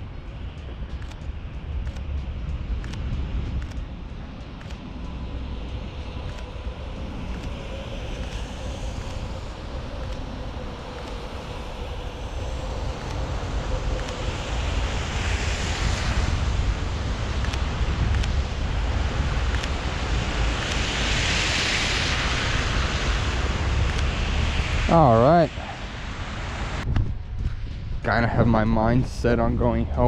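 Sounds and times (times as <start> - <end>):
train passing rumble: 0.0 - 30.0
wind buffeting microphone: 0.0 - 30.0.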